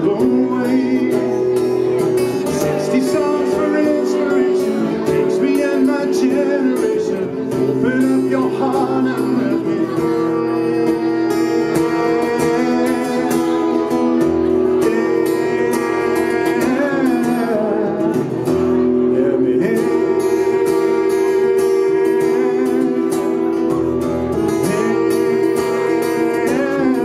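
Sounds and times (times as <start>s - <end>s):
man singing: 0.0s - 27.0s
strummed acoustic guitar: 0.0s - 27.0s.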